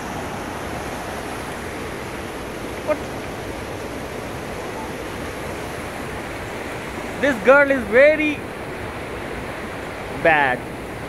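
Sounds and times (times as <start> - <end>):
stream flowing over boulders: 0.0 - 11.0.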